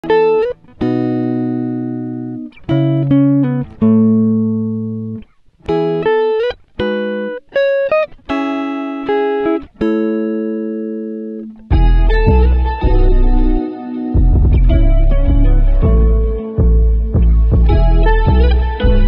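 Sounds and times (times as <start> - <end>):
slow plucked string music: 0.0 - 19.0.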